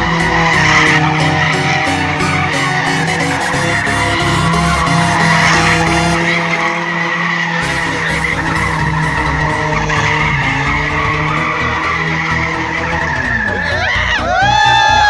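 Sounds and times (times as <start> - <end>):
race car engines: 0.0 - 15.0
tyres skidding: 0.0 - 15.0.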